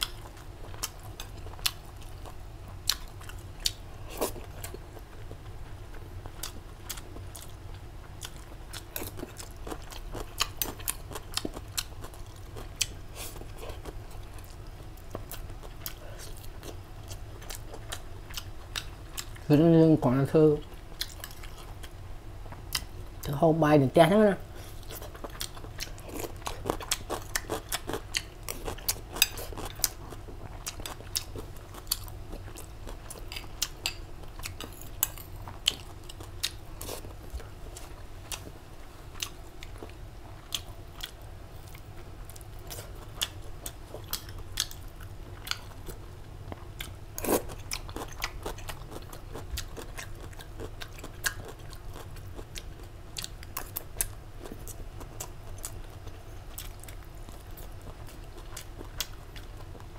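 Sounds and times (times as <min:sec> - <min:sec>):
person chewing close to microphone: 0:00.0 - 0:19.5, 0:20.6 - 0:23.4, 0:24.5 - 0:59.9.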